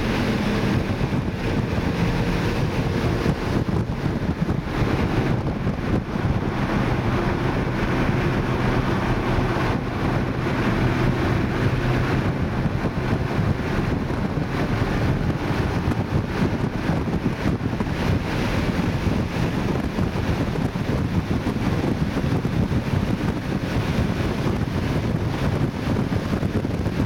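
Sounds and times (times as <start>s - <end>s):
car engine under load: 0.0s - 27.0s
wind and road noise: 0.0s - 27.0s.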